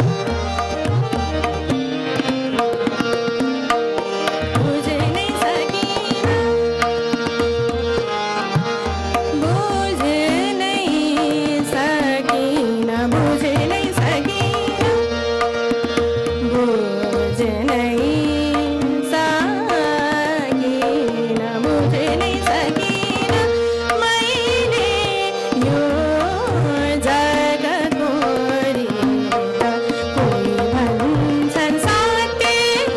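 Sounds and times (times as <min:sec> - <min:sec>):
harmonium melody: 0:00.0 - 0:32.9
tabla rhythm: 0:00.0 - 0:32.9
tanpura drone: 0:00.0 - 0:32.9
woman singing: 0:04.3 - 0:07.9, 0:09.0 - 0:32.9.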